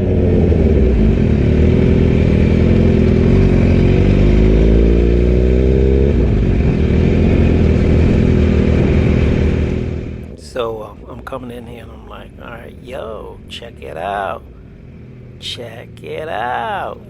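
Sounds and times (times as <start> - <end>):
motorcycle engine running: 0.0 - 10.4, 12.5 - 17.0.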